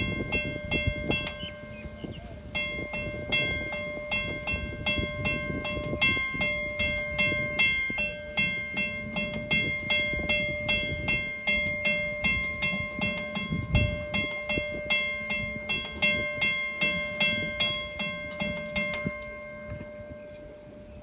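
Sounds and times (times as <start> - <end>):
level crossing bell ringing: 0.0 - 21.0.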